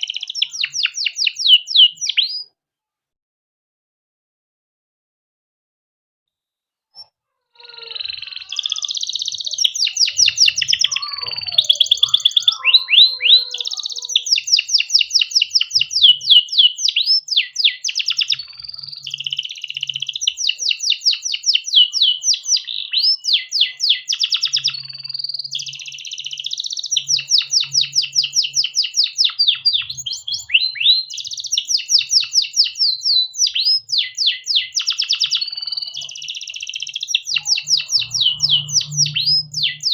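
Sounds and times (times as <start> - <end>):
canary singing trills: 0.0 - 2.5, 7.0 - 39.9.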